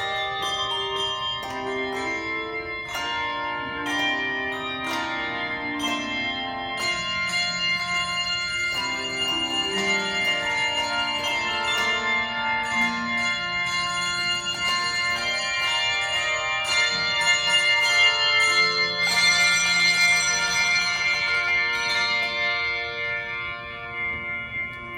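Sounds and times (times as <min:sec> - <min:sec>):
handbell choir ringing: 0:00.0 - 0:24.9.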